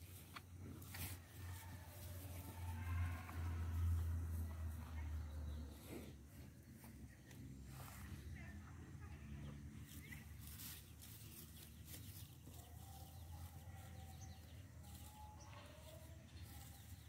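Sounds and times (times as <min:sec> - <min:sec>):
cow tearing and chewing grass: 0:00.0 - 0:08.5, 0:09.6 - 0:17.0
low steady rumble: 0:00.0 - 0:17.0.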